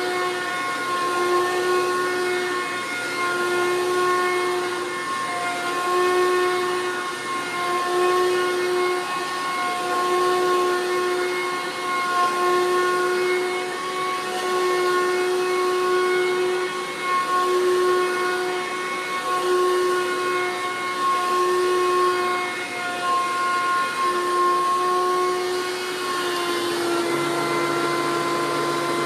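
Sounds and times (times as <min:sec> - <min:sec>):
vacuum cleaner motor whine: 0:00.0 - 0:29.0.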